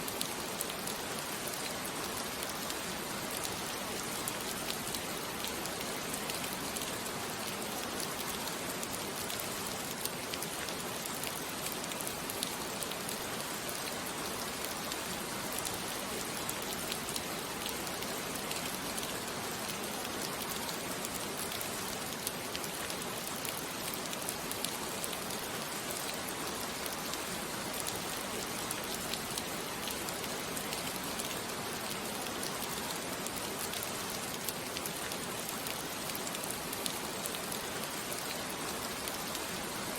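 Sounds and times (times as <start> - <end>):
steady rain on a surface: 0.0 - 39.9.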